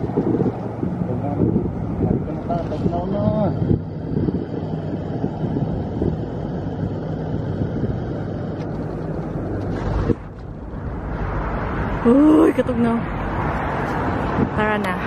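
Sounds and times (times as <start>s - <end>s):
moving vehicle engine drone: 0.0s - 15.0s.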